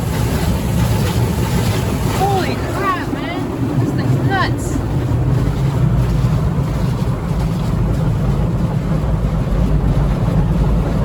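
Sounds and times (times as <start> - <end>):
high-pressure water spray on car: 0.0 - 10.8.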